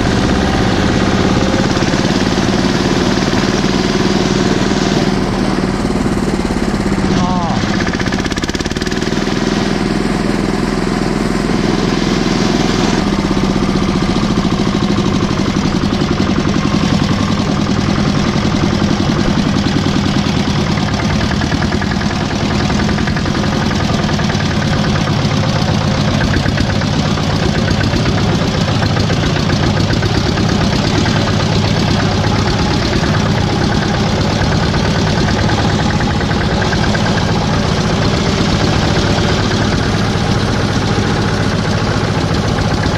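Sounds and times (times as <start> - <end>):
small tractor engine clatter: 0.0 - 42.9.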